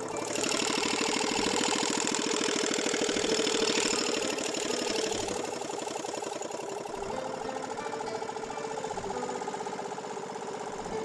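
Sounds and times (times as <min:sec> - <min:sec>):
outboard motor puttering: 0:00.0 - 0:11.0.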